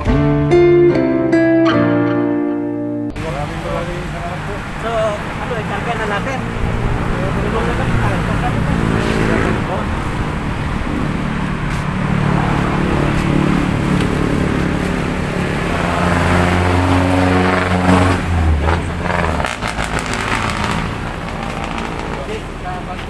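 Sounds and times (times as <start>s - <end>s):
vehicle engine running: 3.2s - 23.0s.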